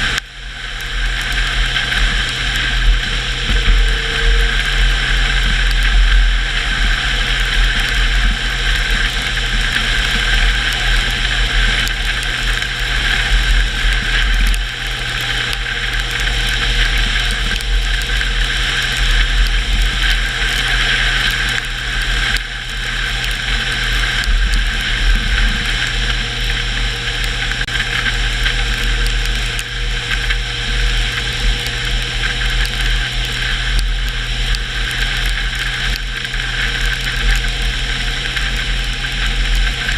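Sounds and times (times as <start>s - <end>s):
car engine running: 0.0s - 39.9s
high whine: 0.0s - 39.9s
road noise rumble: 0.0s - 39.9s.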